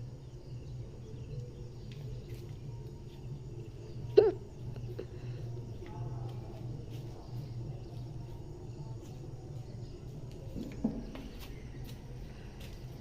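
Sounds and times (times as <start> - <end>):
faint bird or insect chirps: 0.0 - 13.0
steady low hum: 0.0 - 13.0.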